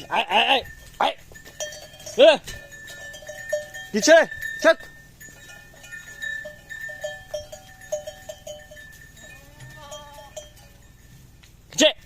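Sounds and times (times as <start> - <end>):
animal bells clinking: 0.0 - 11.8.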